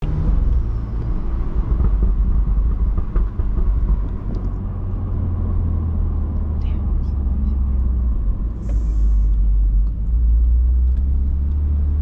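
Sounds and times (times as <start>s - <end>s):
car engine deep exhaust rumble: 0.0s - 12.0s.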